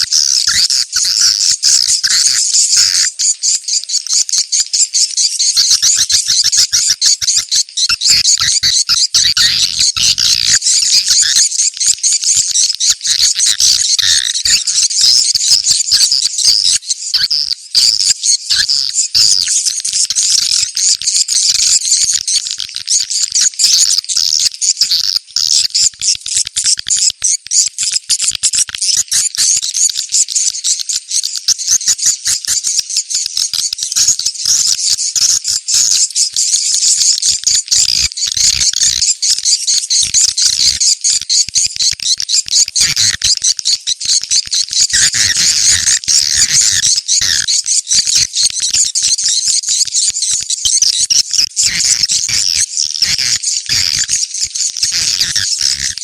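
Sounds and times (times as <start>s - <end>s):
high twittering bird chirps: 0.0s - 56.0s.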